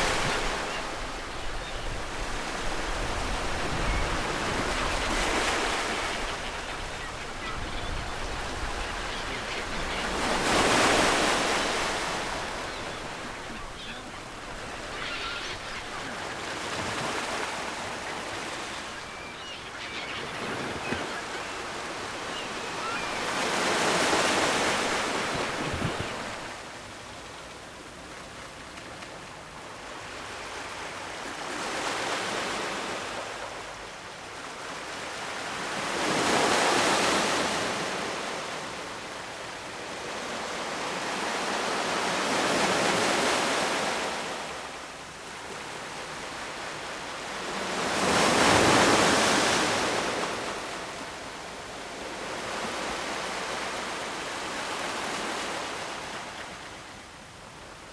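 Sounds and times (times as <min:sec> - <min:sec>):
ocean waves breaking on shore: 0:00.0 - 0:27.4, 0:29.9 - 0:57.6.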